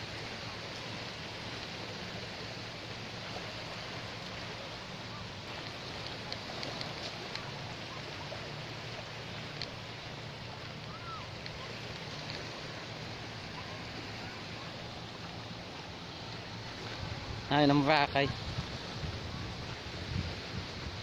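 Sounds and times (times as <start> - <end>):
small waves washing on shore: 0.0 - 21.0.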